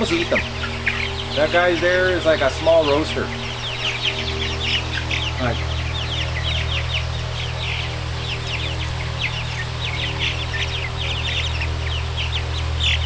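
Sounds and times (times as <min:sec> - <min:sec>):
chicks peeping: 0:00.0 - 0:13.0
electric fan humming: 0:00.0 - 0:13.0.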